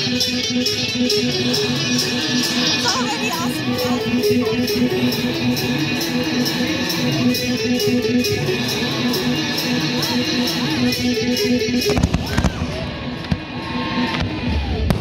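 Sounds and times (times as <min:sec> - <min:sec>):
music with repeating beat: 0:00.0 - 0:15.0.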